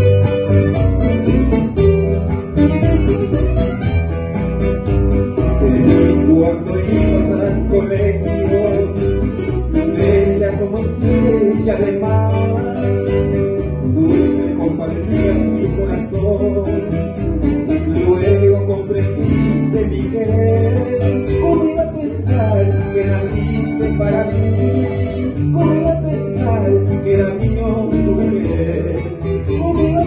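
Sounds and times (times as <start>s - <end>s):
electric bass: 0.0s - 30.0s
nylon-string acoustic guitars: 0.0s - 30.0s
man singing into microphone: 5.4s - 30.0s.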